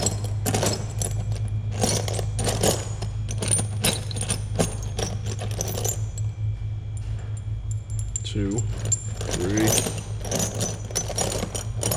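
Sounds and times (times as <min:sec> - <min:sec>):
steel bolts clinking and rattling: 0:00.0 - 0:06.3, 0:07.4 - 0:11.9
steady low hum: 0:00.0 - 0:11.9.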